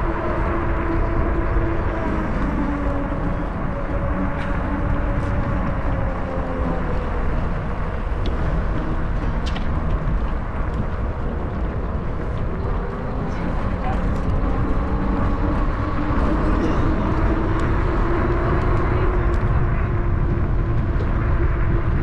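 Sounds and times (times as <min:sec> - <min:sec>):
bicycle tyre road noise: 0:00.0 - 0:22.0
faint engine hum: 0:00.0 - 0:22.0
wind buffeting microphone: 0:00.0 - 0:22.0.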